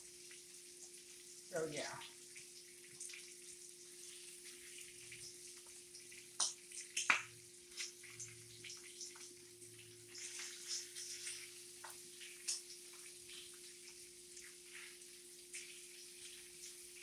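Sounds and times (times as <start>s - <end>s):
bacon frying and popping: 0.0s - 17.0s.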